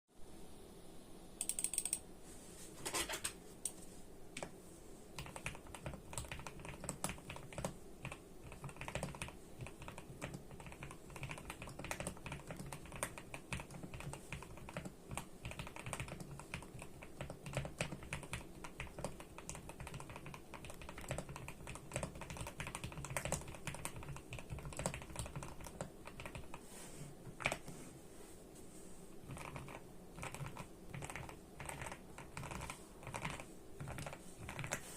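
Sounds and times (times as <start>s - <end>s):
mechanical keyboard typing: 1.4s - 2.0s, 5.2s - 26.6s, 27.3s - 27.7s, 29.2s - 34.9s.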